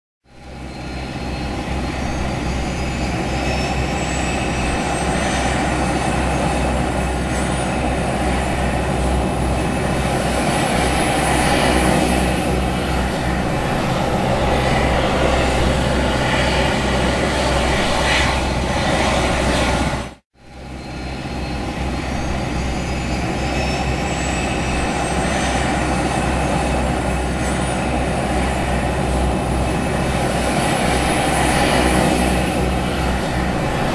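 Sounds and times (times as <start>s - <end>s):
helicopter engine starting up: 0.4s - 33.9s.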